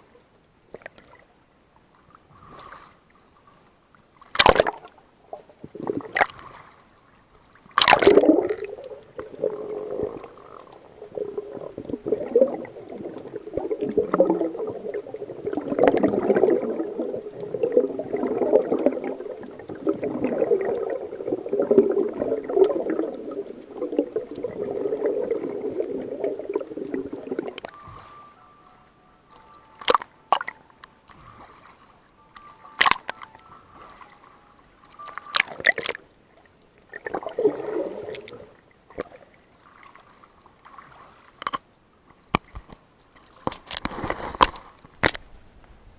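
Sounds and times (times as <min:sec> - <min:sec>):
water sloshing and gurgling: 0:00.7 - 0:45.2.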